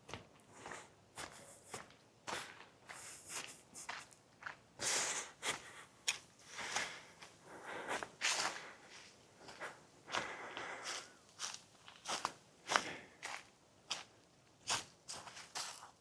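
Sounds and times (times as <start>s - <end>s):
footsteps crunching on trail: 0.6s - 5.7s, 6.5s - 14.1s, 14.7s - 16.0s.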